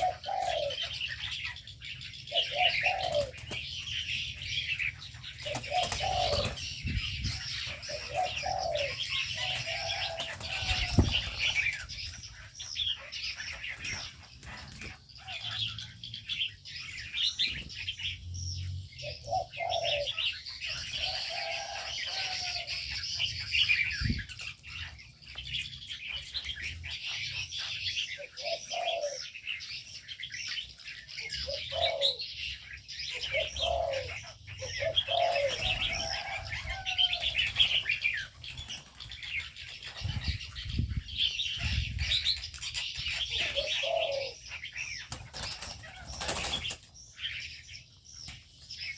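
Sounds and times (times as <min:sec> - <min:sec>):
doves cooing: 0:00.0 - 0:18.2, 0:18.8 - 0:47.6
small birds chirping: 0:00.0 - 0:48.9.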